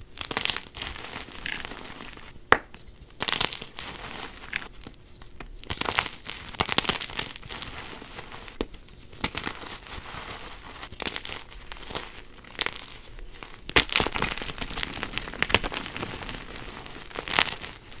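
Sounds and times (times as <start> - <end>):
hands crumbling chalk: 0.2 - 18.0.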